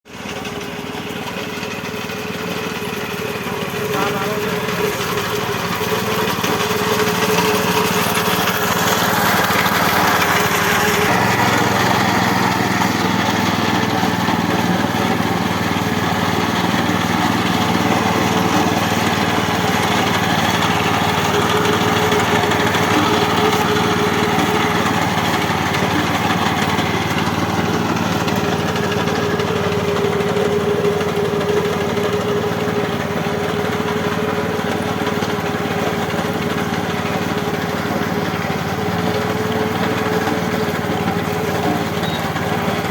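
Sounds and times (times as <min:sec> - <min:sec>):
power weeder engine running: 0:00.1 - 0:42.9.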